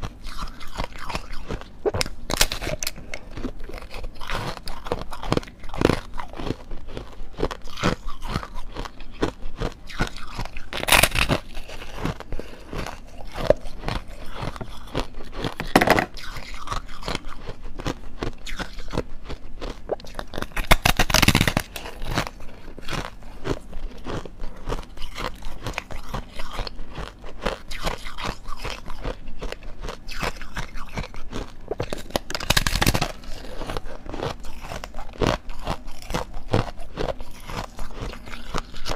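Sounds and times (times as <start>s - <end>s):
crunchy ice chewing: 0.0s - 38.9s.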